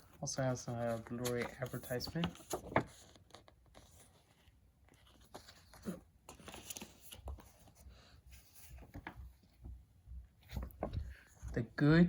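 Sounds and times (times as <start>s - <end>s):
paper rustling: 0.0s - 9.8s, 10.4s - 11.6s.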